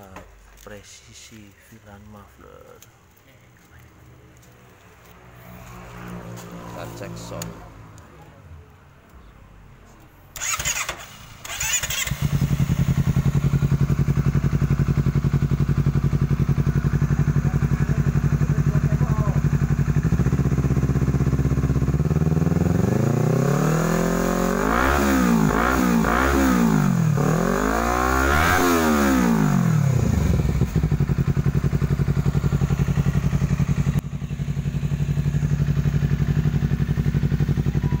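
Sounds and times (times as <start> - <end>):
motorcycle engine idling and revving: 3.7 - 8.7, 10.3 - 38.0.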